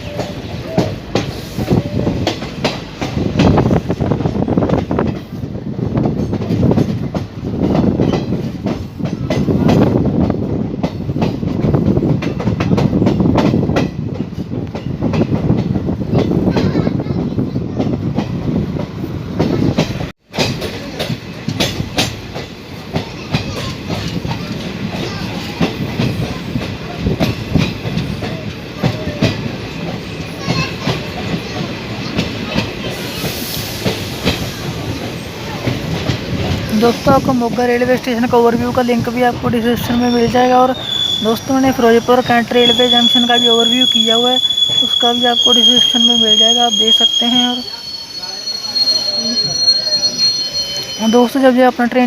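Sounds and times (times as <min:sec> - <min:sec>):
clickety-clack of wheels over rail joints: 0:00.0 - 0:52.0
train rumble: 0:00.0 - 0:52.0.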